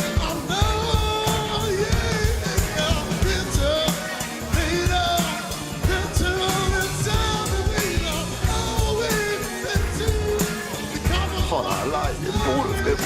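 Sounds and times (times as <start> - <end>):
person singing: 0.0 - 13.0
rock band playing: 0.0 - 13.0.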